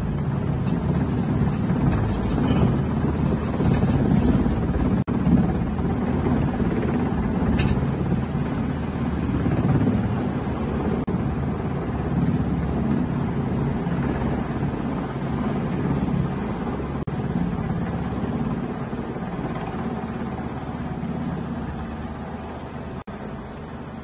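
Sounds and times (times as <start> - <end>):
helicopter rotor noise: 0.0 - 24.0.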